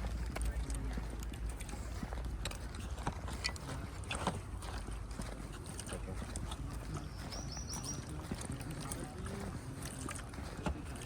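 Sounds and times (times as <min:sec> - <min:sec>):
footsteps on hard paving: 0:00.0 - 0:11.0.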